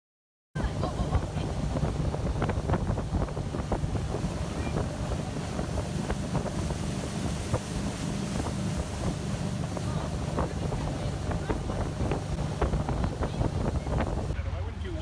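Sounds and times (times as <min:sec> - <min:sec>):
motorboat running: 0:00.6 - 0:15.0
water noise: 0:00.6 - 0:15.0
wind buffeting microphone: 0:00.6 - 0:15.0.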